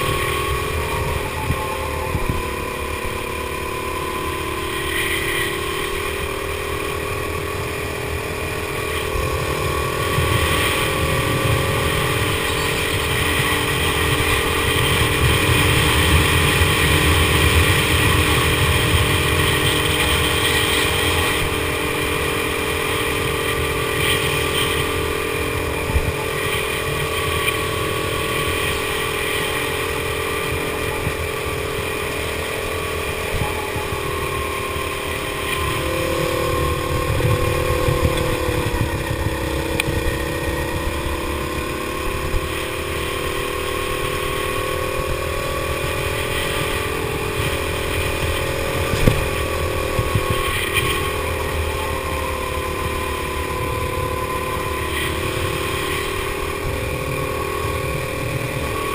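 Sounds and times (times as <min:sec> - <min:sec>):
go-kart engine running hard: 0:00.0 - 0:58.9.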